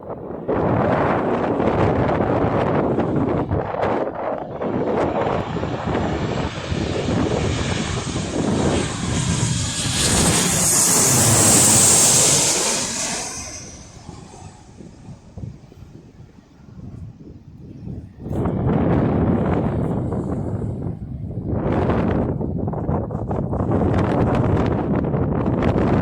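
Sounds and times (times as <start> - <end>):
wind buffeting microphone: 0.0 - 26.0
airliner passing overhead: 0.1 - 22.7.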